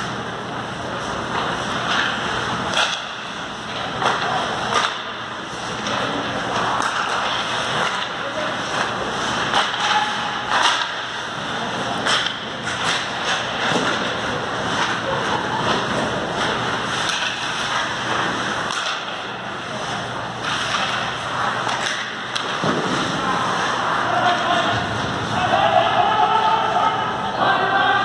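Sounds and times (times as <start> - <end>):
sticks and puck clacking: 0.8 - 26.6.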